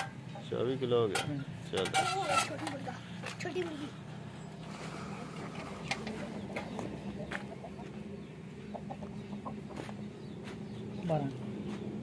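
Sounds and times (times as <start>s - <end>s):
hens clucking: 0.0s - 12.0s
steady low hum: 0.0s - 12.0s.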